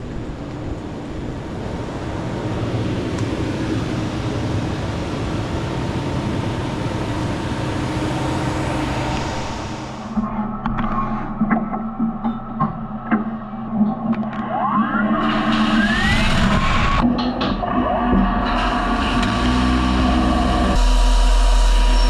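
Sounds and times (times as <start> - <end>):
machinery humming and hissing: 0.0 - 11.5, 13.2 - 22.0.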